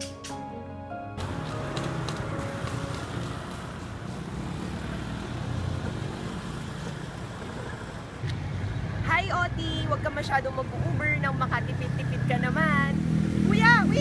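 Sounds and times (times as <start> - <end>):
street traffic rumble: 1.2 - 14.0.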